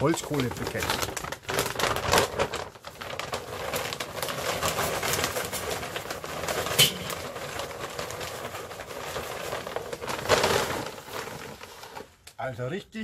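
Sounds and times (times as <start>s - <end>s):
charcoal pouring into metal container: 0.0s - 12.2s.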